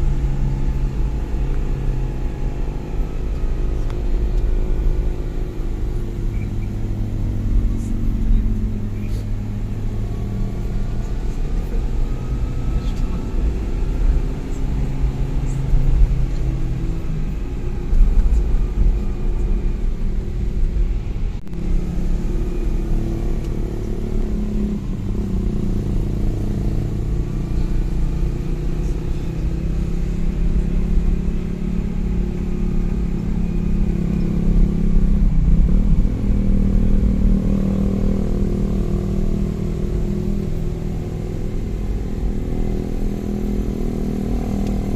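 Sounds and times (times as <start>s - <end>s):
low road rumble: 0.0s - 44.9s
vehicle engine running: 0.0s - 44.9s.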